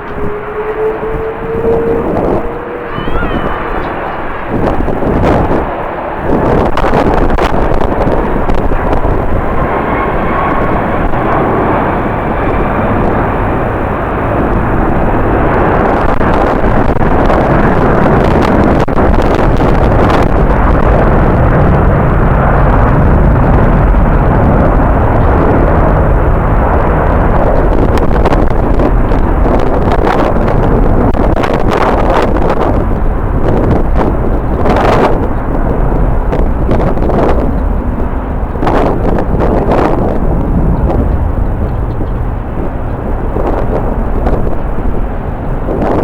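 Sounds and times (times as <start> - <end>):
jet engine roar with whine: 0.0 - 46.0
wind buffeting microphone: 0.0 - 46.0.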